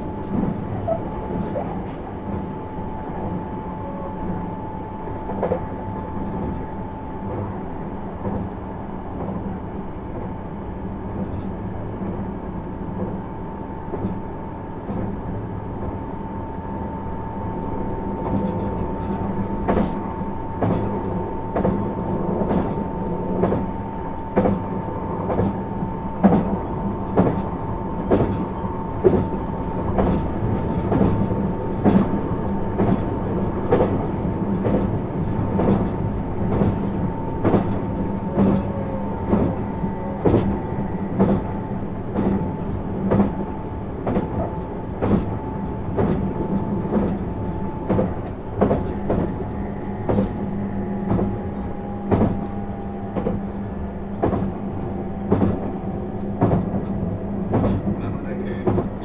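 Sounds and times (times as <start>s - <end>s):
train hum: 0.0s - 59.0s.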